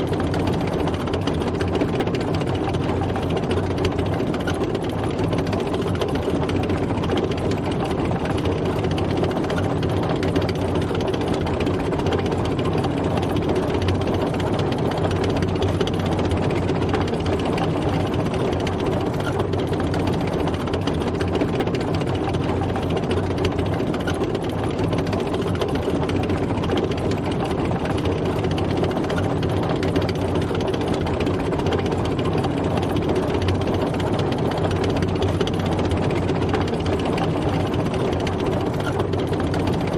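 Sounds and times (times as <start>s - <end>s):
mechanical clatter: 0.0s - 39.9s
tank engine running: 0.0s - 39.9s.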